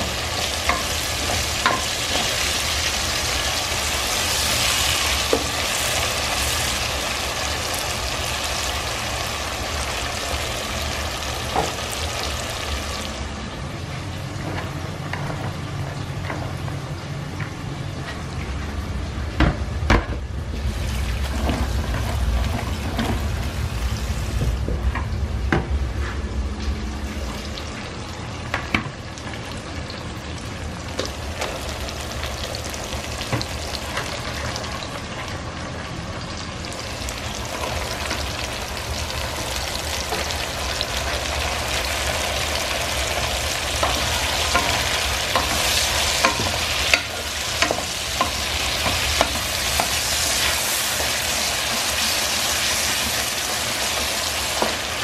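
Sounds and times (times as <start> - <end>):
vegetables sizzling in oil: 0.0 - 19.2, 20.5 - 25.2, 26.9 - 55.0.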